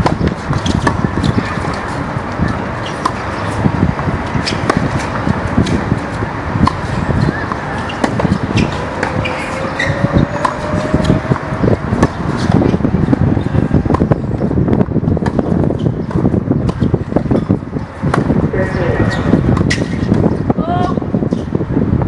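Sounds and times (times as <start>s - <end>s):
tennis balls bouncing on court: 0.0s - 21.5s
tennis balls struck by rackets: 0.0s - 21.5s.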